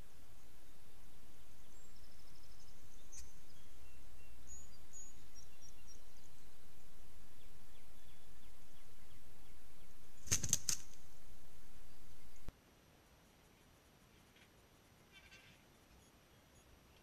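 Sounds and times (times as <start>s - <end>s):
songbirds chirping: 0.0s - 17.0s
steady outdoor hiss: 0.0s - 17.0s.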